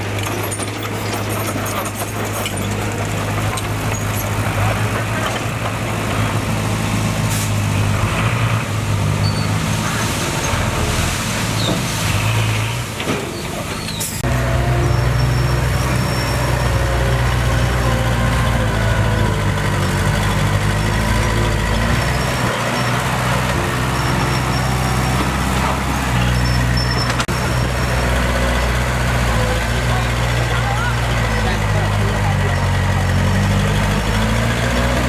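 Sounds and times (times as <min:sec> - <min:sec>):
heavy diesel engine under work: 0:00.0 - 0:35.0.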